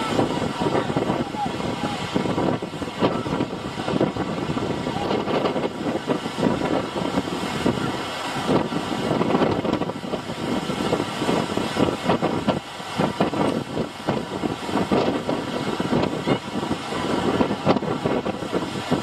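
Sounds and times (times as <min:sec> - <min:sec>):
boat engine drone: 0:00.0 - 0:19.0
gusting wind: 0:00.0 - 0:19.0
water noise: 0:00.0 - 0:19.0.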